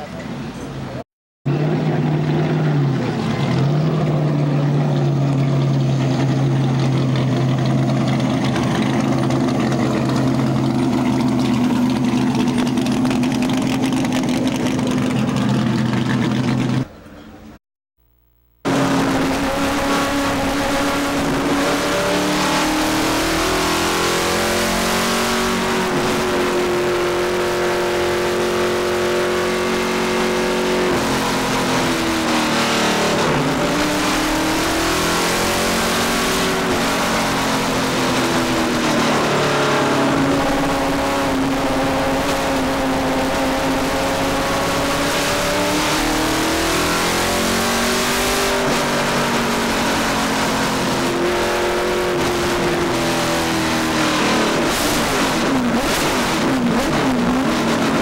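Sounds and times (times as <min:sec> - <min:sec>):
race car engine running: 0:01.5 - 0:17.0, 0:18.0 - 0:58.0.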